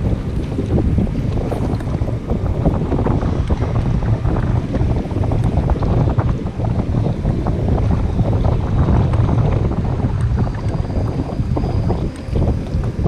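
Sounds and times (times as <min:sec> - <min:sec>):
water lapping against boat hull: 0:00.0 - 0:13.0
wind buffeting microphone: 0:00.0 - 0:13.0.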